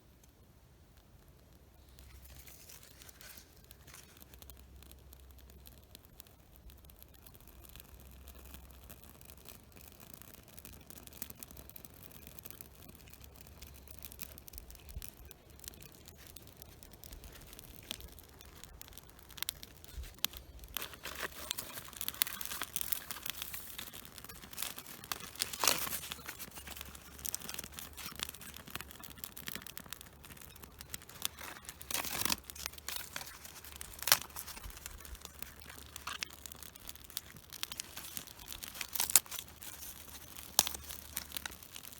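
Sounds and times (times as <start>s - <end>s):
bark rustling and crinkling: 1.8s - 41.9s.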